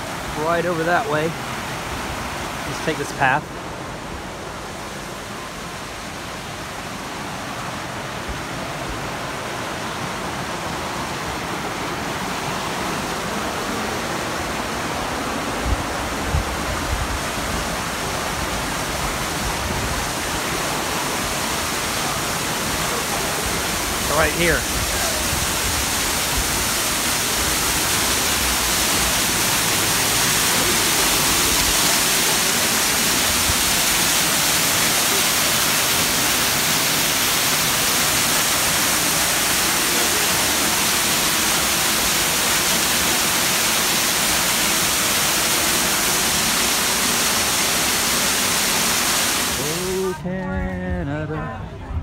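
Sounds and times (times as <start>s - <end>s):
waterfall splashing into pool: 0.0s - 50.2s.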